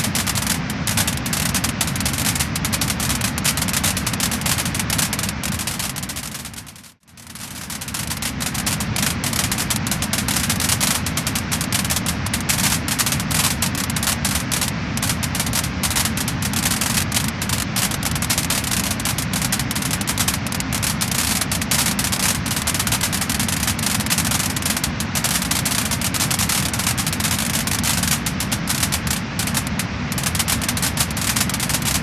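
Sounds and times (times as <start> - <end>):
fire crackling and popping: 0.0 - 32.0
low rumble of flame: 0.0 - 32.0.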